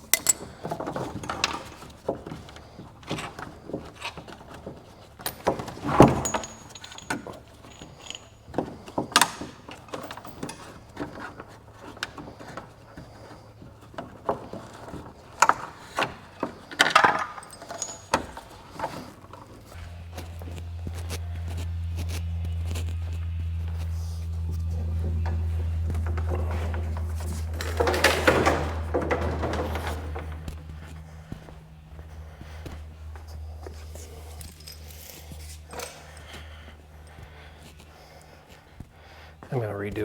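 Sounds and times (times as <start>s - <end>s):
metal tools clinking and rattling: 0.0s - 38.3s.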